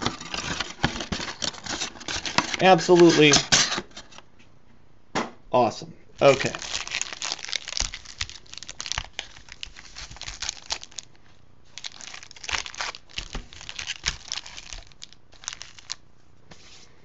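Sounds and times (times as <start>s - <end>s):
foil packs crinkling: 0.0s - 4.2s, 6.2s - 16.0s.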